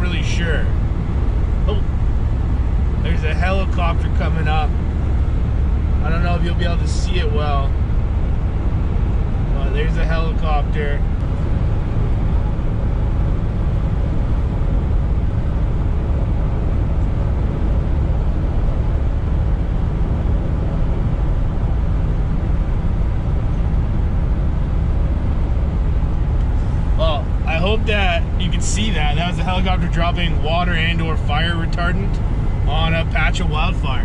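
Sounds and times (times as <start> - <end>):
van engine and road noise: 0.0 - 34.0.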